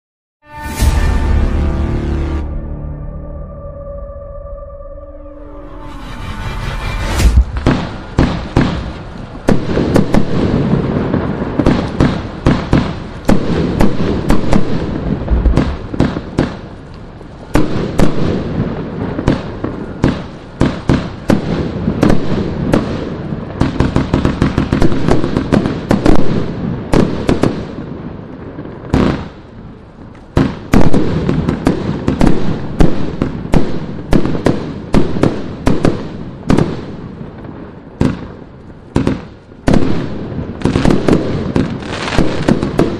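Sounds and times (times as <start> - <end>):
firework bursts in mid-air: 6.0 - 42.9.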